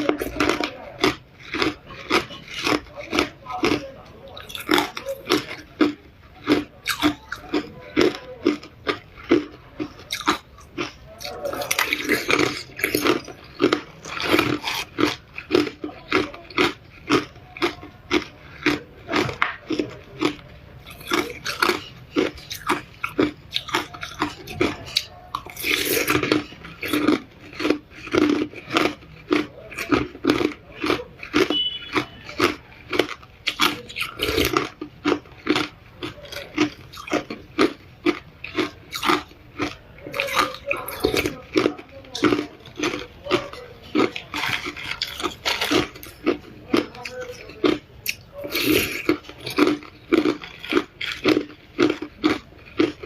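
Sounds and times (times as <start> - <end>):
person chewing ice: 0.0 - 53.0.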